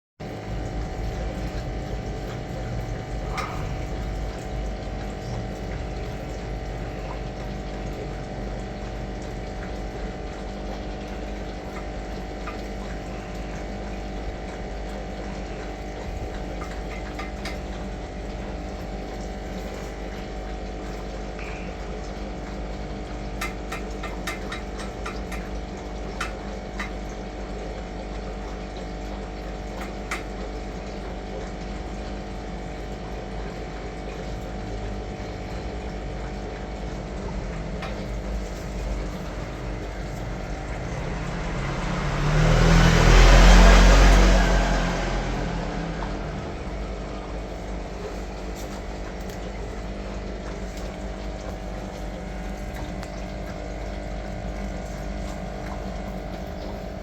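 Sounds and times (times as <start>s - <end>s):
steady machine hum: 0.2s - 57.0s.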